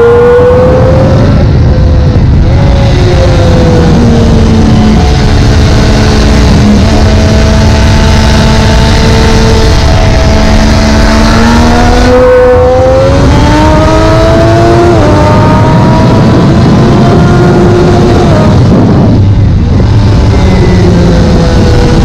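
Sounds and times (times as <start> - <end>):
heavy wind rush: 0.0 - 22.0
motorcycle engine revving: 0.0 - 22.0.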